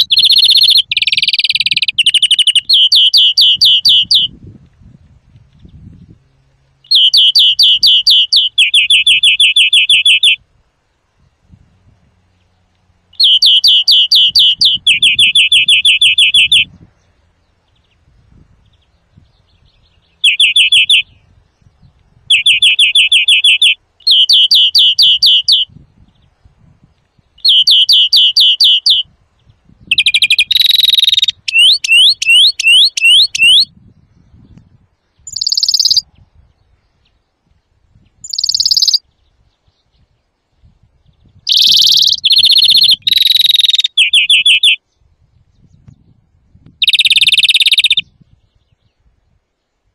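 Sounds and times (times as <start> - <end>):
finch singing trills: 0.0 - 4.4, 6.8 - 10.4, 13.1 - 26.4, 27.2 - 34.5, 35.1 - 37.2, 38.0 - 40.1, 41.0 - 46.1, 46.7 - 49.0.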